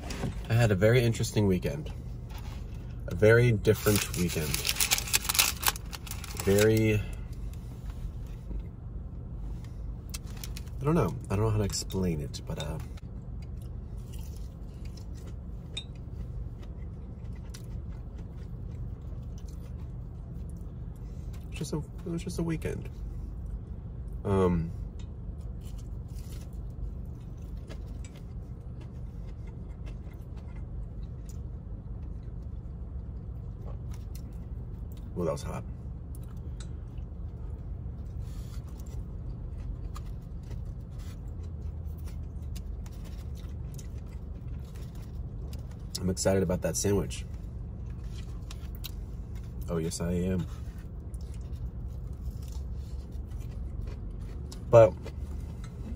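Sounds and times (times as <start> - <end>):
low hum inside car: 0.0 - 55.9
chewing crunchy fried food: 1.8 - 11.2, 12.7 - 22.0, 24.8 - 35.2, 35.8 - 46.1, 47.2 - 55.9.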